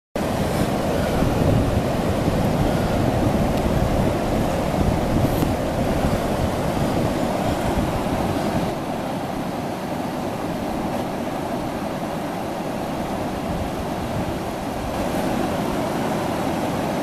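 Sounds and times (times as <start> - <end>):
river water rushing over dam: 0.2 - 17.0
wind rumbling on microphone: 0.2 - 17.0.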